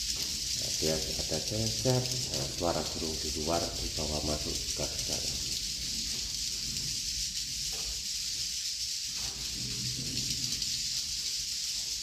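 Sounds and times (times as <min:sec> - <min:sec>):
swiftlets chirping and clicking: 0:00.0 - 0:12.0.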